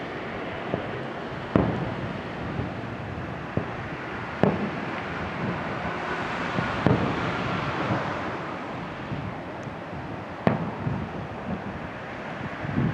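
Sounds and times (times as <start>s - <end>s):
steady rushing noise: 0.0s - 12.9s.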